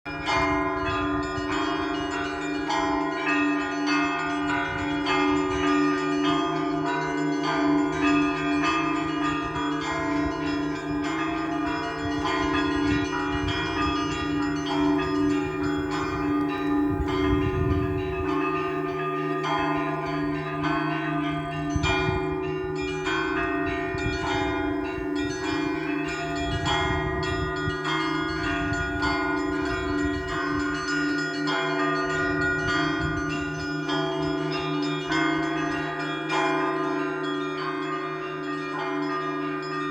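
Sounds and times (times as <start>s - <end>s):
low church bell struck steadily: 0.1s - 39.9s.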